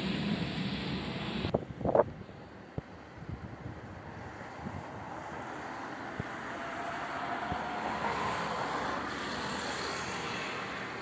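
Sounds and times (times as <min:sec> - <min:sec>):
distant jet engines roaring: 0:00.0 - 0:11.0.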